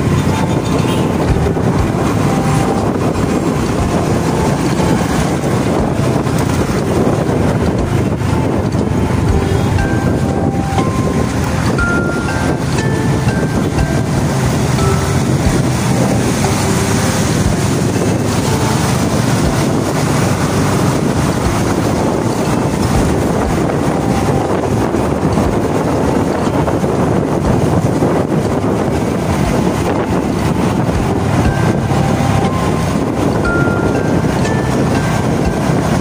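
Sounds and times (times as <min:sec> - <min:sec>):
motorcycle engine running: 0:00.0 - 0:36.0
wind rushing over microphone: 0:00.0 - 0:36.0.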